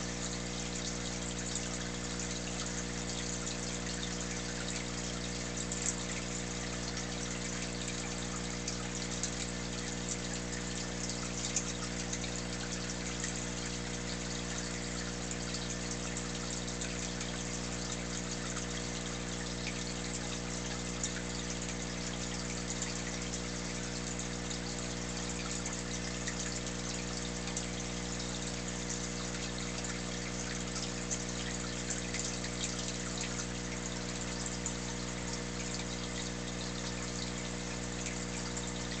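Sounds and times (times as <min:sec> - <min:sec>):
bubbles fizzing: 0:00.0 - 0:39.0
water trickling: 0:00.0 - 0:39.0.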